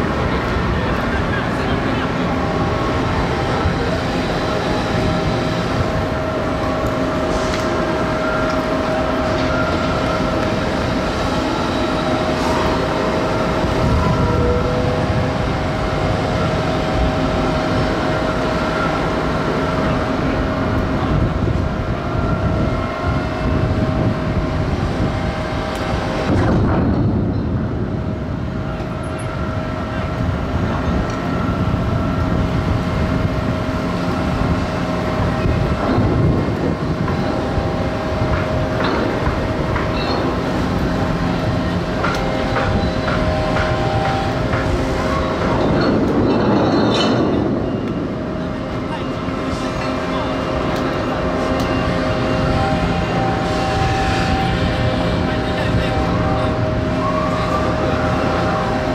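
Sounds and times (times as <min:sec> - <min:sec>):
constant machine whine: 0:00.0 - 0:58.9
heavy machinery low drone: 0:00.0 - 0:58.9.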